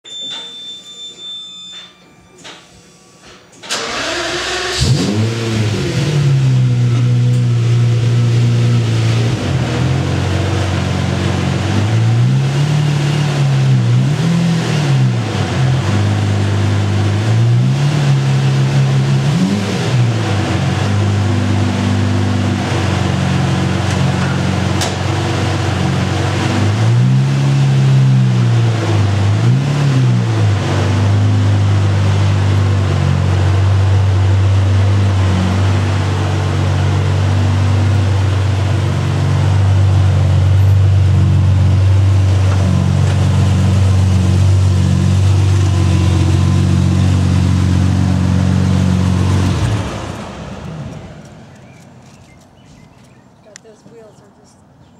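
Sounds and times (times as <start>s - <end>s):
sports car engine idling and revving: 3.9s - 53.8s.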